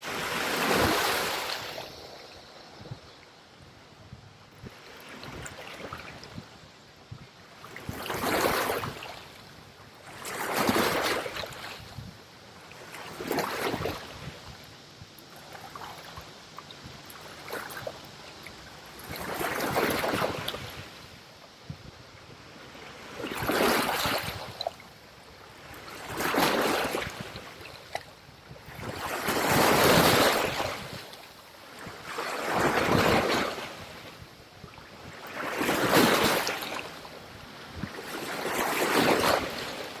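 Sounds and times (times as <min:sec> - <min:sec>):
steady low hiss: 0:00.0 - 0:35.4
small waves washing on shore: 0:00.0 - 0:40.0.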